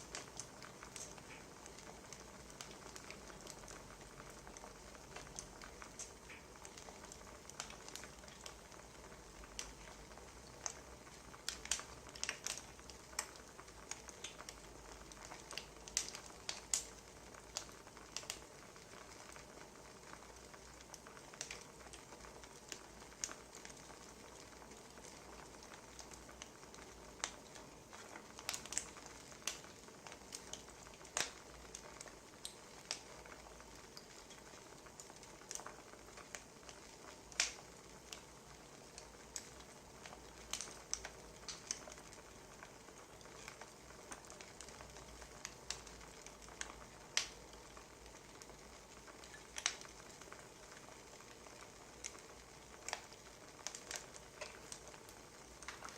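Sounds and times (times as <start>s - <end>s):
faint steady hiss: 0.0s - 55.9s
wood fire crackling: 0.0s - 55.9s.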